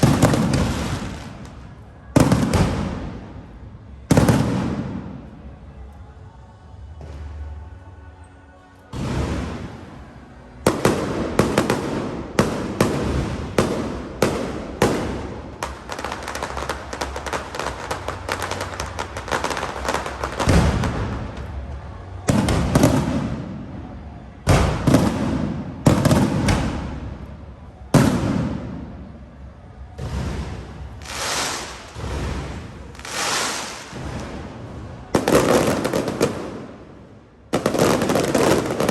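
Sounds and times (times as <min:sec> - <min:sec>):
fireworks bangs: 0:00.0 - 0:05.4, 0:08.9 - 0:38.9
fireworks crackling: 0:00.0 - 0:05.4, 0:08.9 - 0:38.9
heavy fireworks booms: 0:00.0 - 0:05.4, 0:08.9 - 0:38.9.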